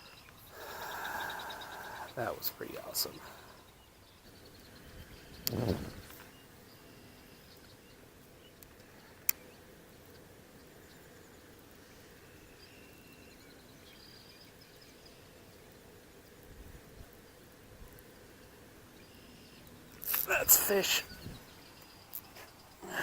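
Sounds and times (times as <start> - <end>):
faint bird chirps: 0.0 - 16.4, 17.2 - 23.0.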